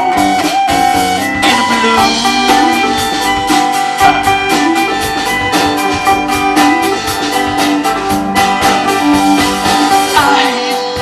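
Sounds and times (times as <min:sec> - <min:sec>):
band playing instrumental music: 0:00.0 - 0:11.0.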